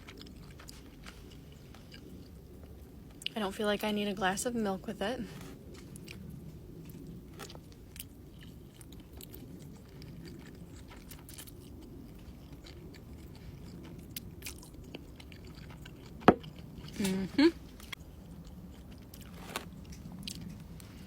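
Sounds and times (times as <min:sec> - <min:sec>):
person chewing noodles: 0:00.0 - 0:03.3, 0:05.6 - 0:21.0.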